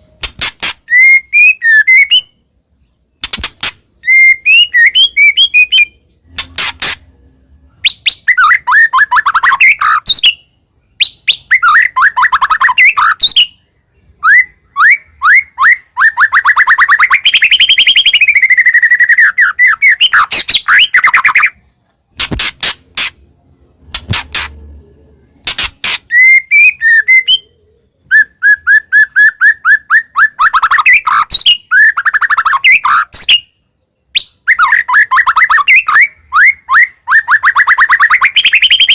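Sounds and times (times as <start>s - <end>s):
bird singing whistles and trills: 0.0s - 21.6s, 22.9s - 38.9s.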